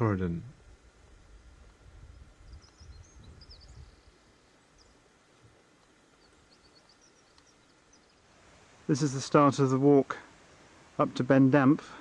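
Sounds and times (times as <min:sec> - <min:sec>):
small birds chirping: 0:01.2 - 0:11.8.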